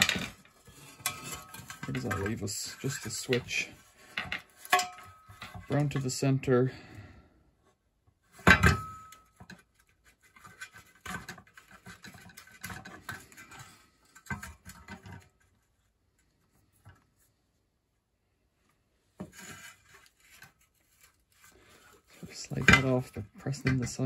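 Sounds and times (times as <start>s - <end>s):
light clicks and scrapes: 0.0s - 6.6s, 9.2s - 17.4s, 18.7s - 24.0s.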